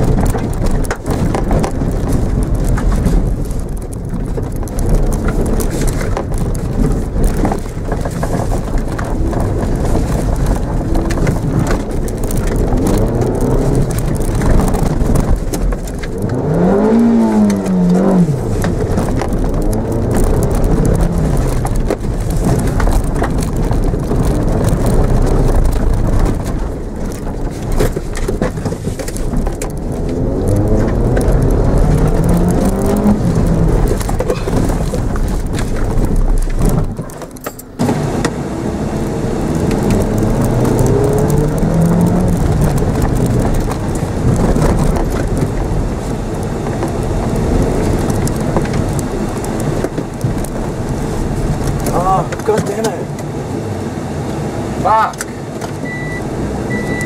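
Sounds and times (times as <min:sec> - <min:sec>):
tyres rumbling on rough grass: 0:00.0 - 0:54.0
car engine revving: 0:00.0 - 0:57.0.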